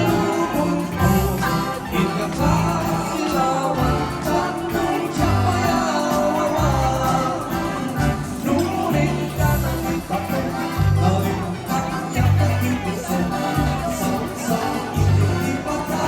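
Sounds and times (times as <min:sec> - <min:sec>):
person singing: 0:00.0 - 0:16.0
steady bass beat: 0:00.0 - 0:16.0.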